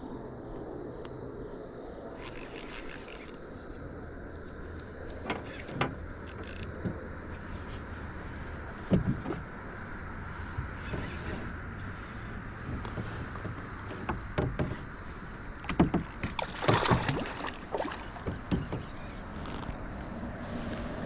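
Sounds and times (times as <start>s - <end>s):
wind: 0.0s - 21.0s
moving water: 2.0s - 21.0s.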